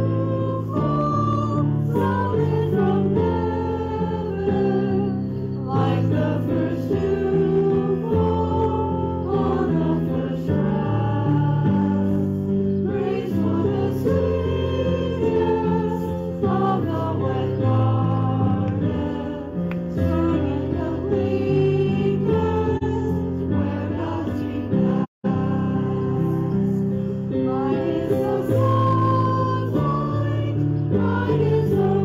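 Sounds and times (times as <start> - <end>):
congregation singing a hymn: 0.0 - 32.0.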